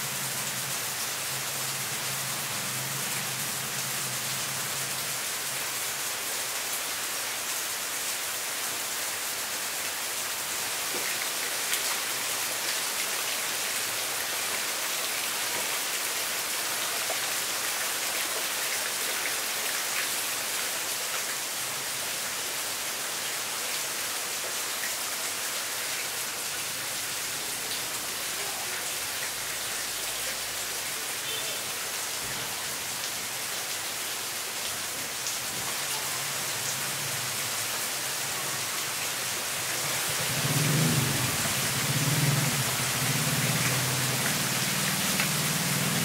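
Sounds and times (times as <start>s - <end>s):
raindrops ticking on surfaces: 0.0s - 46.0s
steady rain hiss: 0.0s - 46.0s.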